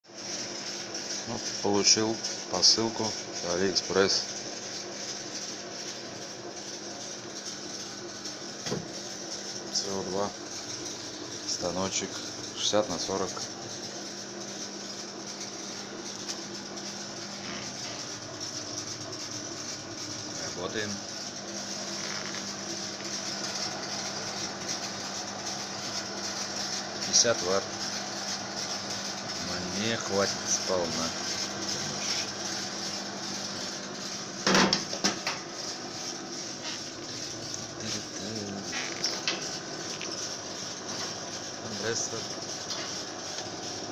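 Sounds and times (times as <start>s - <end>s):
machinery humming and hissing: 0.1s - 43.9s.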